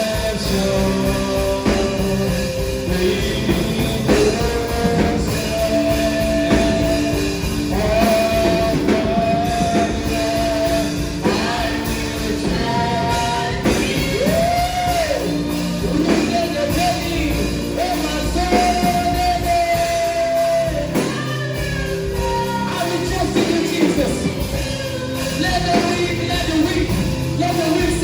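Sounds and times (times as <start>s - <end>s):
drum beats: 0.0s - 28.0s
worship band playing slow song: 0.0s - 28.0s.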